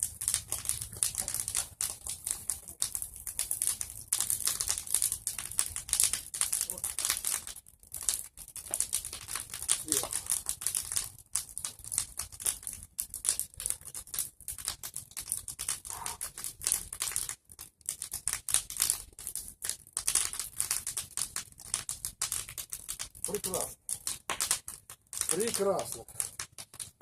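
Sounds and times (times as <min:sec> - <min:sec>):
bonfire crackling: 0:00.0 - 0:27.0.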